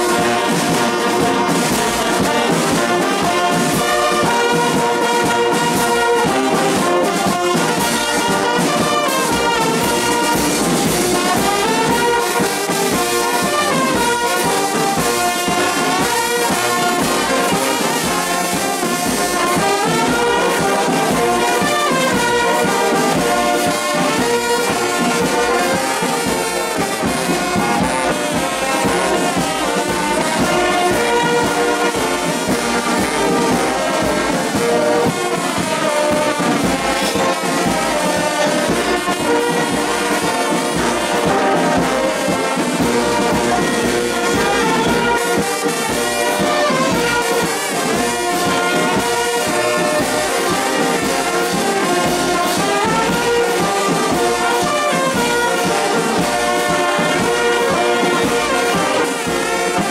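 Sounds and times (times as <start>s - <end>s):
brass band playing: 0.0s - 59.9s
cymbals beating: 0.0s - 59.9s.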